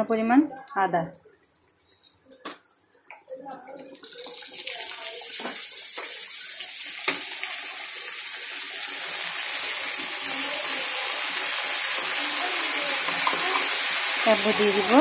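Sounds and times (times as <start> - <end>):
garlic sizzling in hot oil: 1.7 - 15.0.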